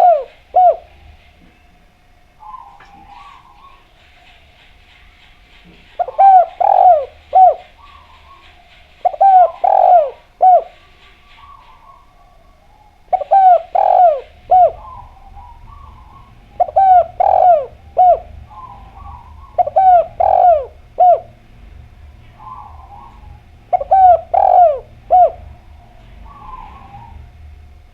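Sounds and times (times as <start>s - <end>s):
dove cooing: 0.0s - 27.9s.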